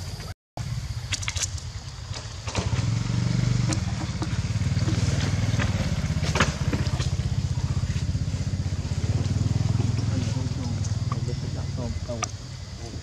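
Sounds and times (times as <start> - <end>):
engine throbbing: 2.4 - 13.0.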